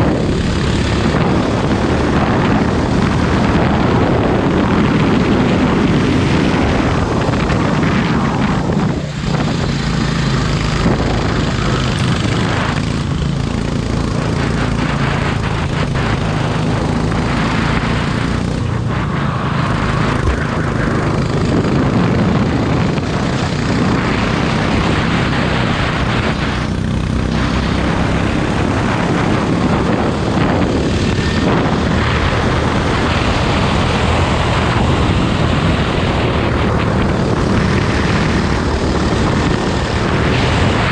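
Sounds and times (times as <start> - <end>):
kart engine at high revs: 0.0 - 40.9.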